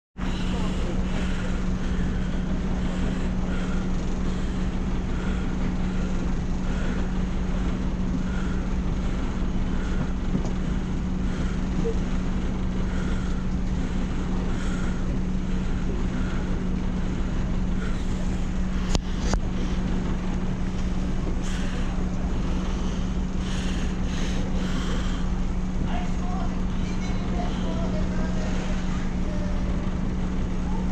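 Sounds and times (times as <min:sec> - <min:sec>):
boat engine idling: 0:00.2 - 0:30.9.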